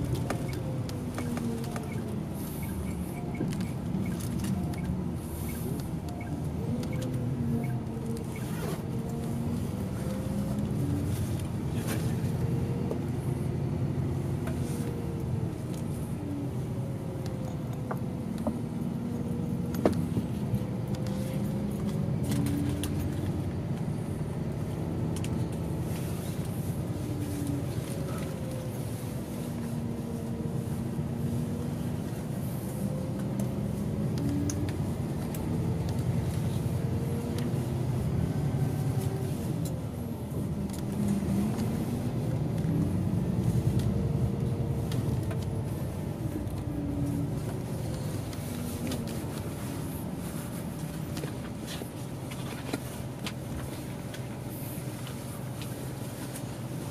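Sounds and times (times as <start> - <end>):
bus engine and road rumble: 0.0 - 56.9
interior rattles and clicks: 0.0 - 56.9.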